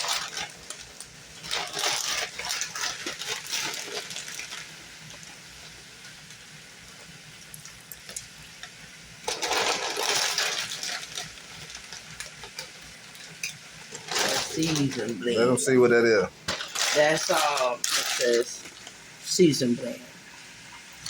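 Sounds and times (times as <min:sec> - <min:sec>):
seasoning shaker rattling: 0:00.0 - 0:15.2, 0:16.5 - 0:19.1
steak sizzling in pan: 0:00.0 - 0:21.0.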